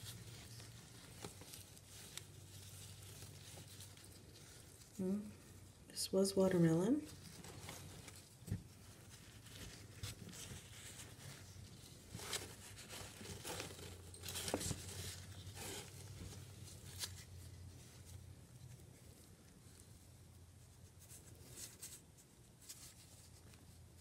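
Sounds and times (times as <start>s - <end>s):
rustling shredded cardboard: 0.0s - 5.7s, 7.0s - 24.0s
low steady hum: 0.0s - 24.0s.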